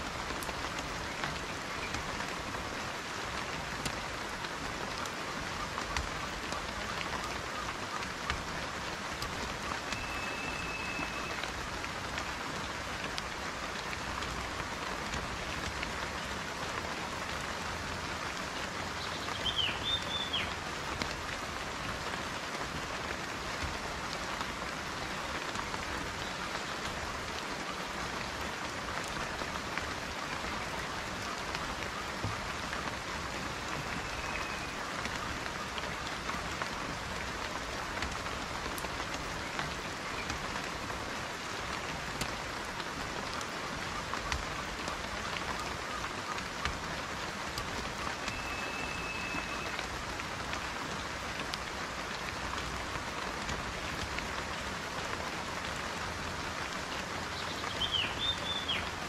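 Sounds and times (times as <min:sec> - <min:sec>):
rain on leafy vegetation: 0:00.0 - 0:59.0.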